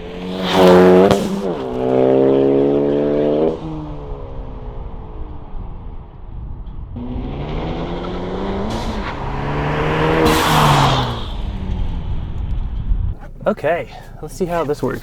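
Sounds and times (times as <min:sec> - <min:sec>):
car accelerating past: 0:00.0 - 0:05.9, 0:07.0 - 0:13.1.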